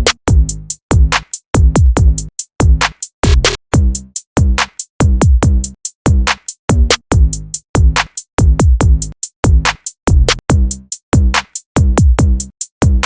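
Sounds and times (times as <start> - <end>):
electronic music with drum-machine beat: 0.0 - 13.0.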